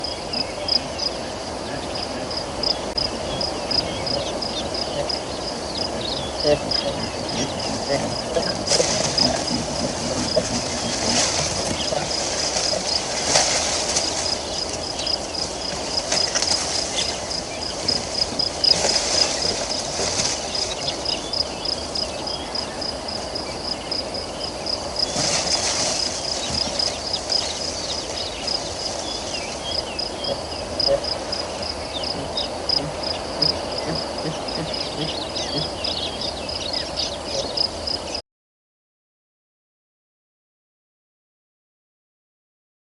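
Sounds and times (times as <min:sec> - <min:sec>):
hum of other insects: 0:00.0 - 0:38.2.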